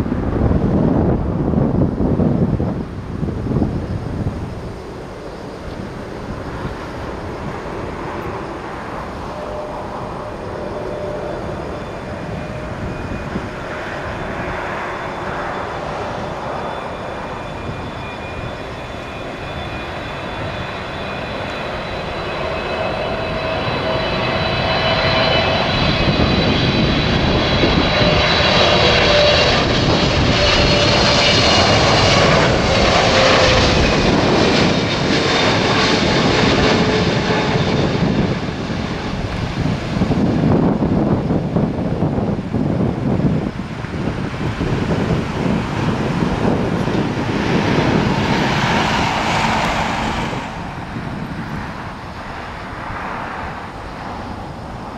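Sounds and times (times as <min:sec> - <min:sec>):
high fan whine: 0:00.0 - 0:54.9
jet engines roaring overhead: 0:00.0 - 0:54.9.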